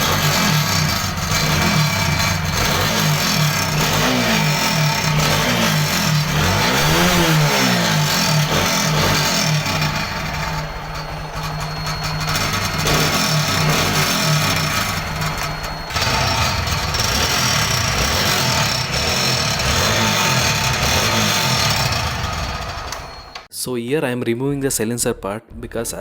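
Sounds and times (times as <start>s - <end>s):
motorcycle engine revving: 0.0s - 23.5s.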